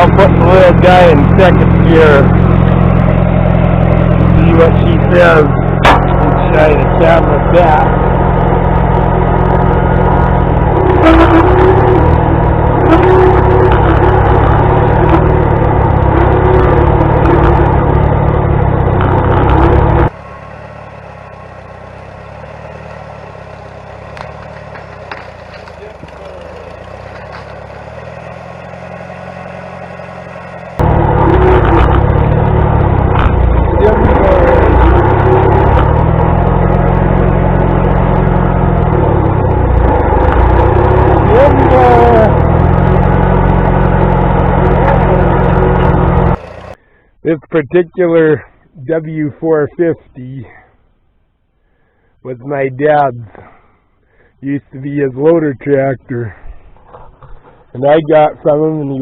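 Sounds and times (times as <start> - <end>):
tractor engine running: 0.0 - 48.9, 50.6 - 59.0.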